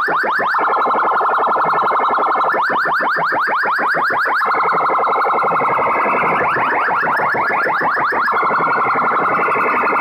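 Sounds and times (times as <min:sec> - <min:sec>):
electronic siren chirps: 0:00.0 - 0:10.0.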